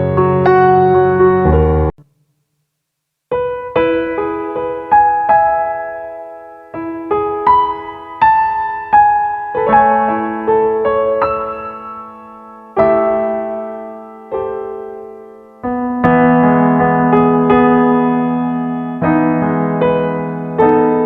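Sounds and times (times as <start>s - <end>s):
slow gentle piano music: 0.0s - 2.0s, 3.3s - 21.0s.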